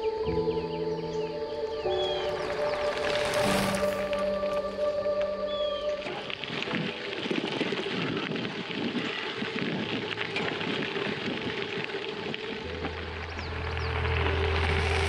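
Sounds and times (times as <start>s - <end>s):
bicycle tyres crunching gravel: 1.8s - 15.0s.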